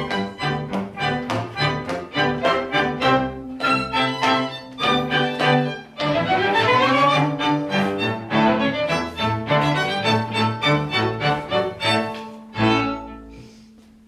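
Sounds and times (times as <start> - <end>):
violin and cello polka: 0.0 - 13.4.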